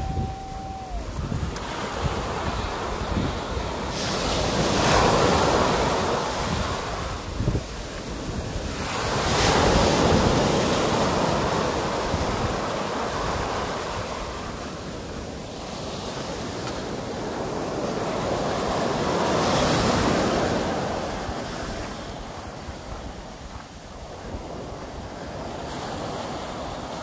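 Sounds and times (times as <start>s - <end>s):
sea waves breaking on a beach: 0.0s - 27.0s.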